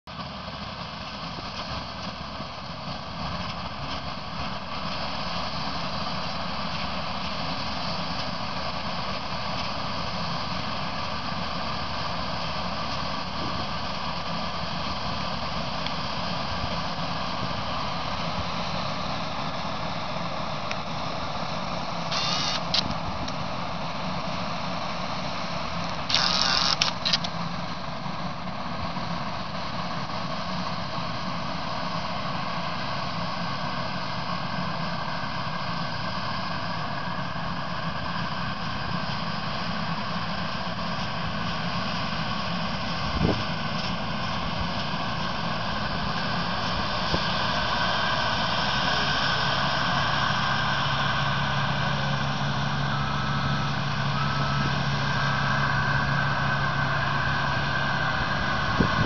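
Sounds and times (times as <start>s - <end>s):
combine harvester engine and machinery: 0.1s - 59.0s.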